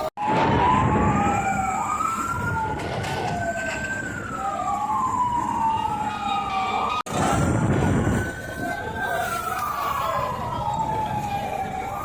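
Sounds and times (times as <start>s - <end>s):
emergency sirens wailing: 0.0s - 12.0s
traffic rumble: 0.0s - 12.0s.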